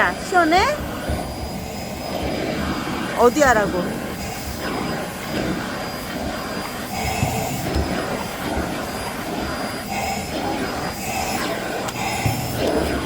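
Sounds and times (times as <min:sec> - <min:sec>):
air jet rushing over dog coat: 0:00.0 - 0:13.0
faint high whine: 0:00.0 - 0:13.0.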